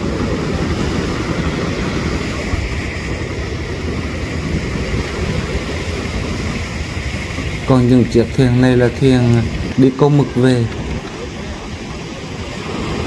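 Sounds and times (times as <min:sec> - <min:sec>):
surf washing up a beach: 0:00.0 - 0:13.0
wind rumbling on microphone: 0:00.0 - 0:13.0.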